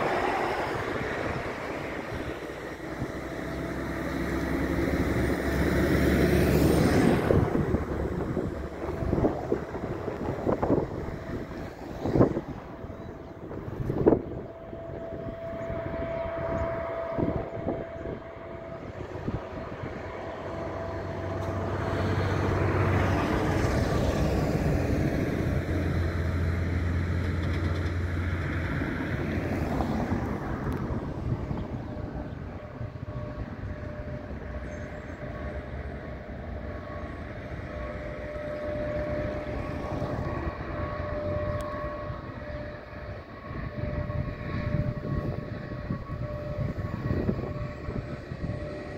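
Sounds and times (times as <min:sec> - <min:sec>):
high engine whine: 0:00.0 - 0:48.9.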